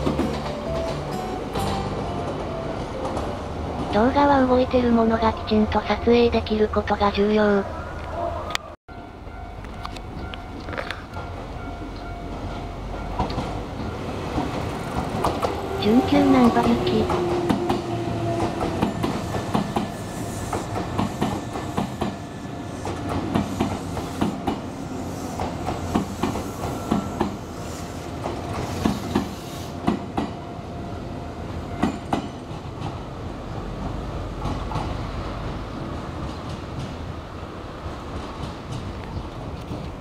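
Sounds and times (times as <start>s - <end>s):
train rumble: 0.0s - 7.3s, 8.9s - 40.0s.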